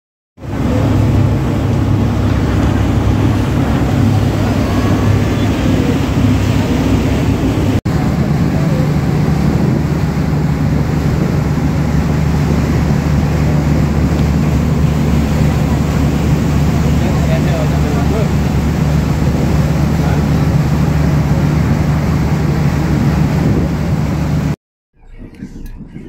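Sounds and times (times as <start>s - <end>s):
rushing water: 0.4s - 24.6s
boat engine drone: 0.4s - 26.0s
wind: 0.4s - 26.0s.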